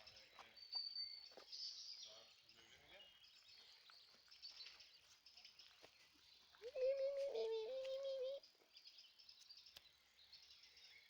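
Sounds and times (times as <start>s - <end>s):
faint bird chirps and peeps: 0.0s - 11.0s.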